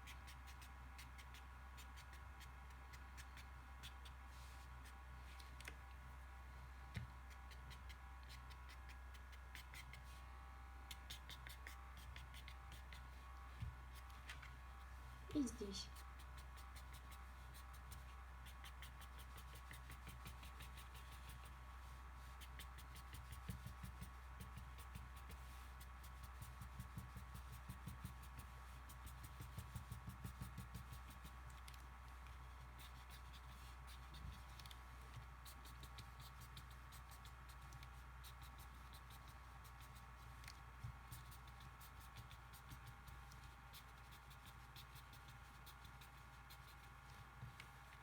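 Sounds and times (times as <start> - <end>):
marker scratching on paper: 0.0 - 5.0, 7.2 - 10.1, 10.9 - 13.2, 15.3 - 48.0.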